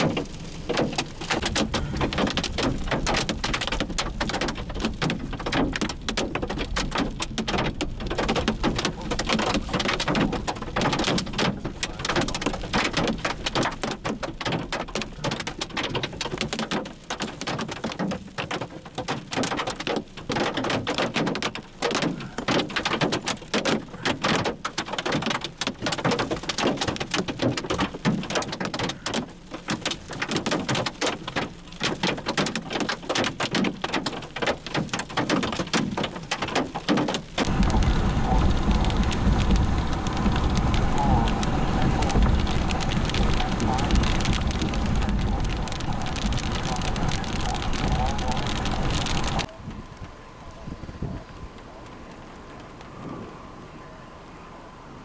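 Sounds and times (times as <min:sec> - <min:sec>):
heavy rain on hard surface: 0:00.0 - 0:55.0.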